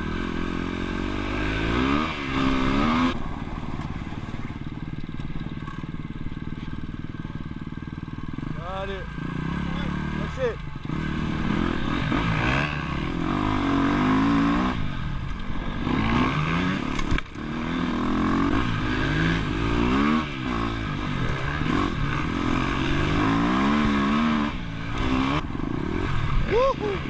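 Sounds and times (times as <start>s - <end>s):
dirt bike engine revving: 0.0s - 3.6s, 4.4s - 27.0s.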